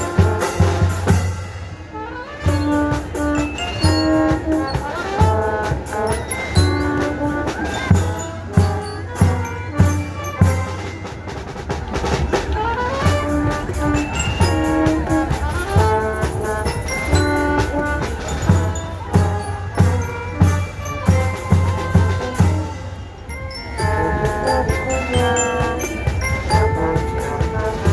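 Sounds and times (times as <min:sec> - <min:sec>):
brass melody: 0:00.0 - 0:27.9.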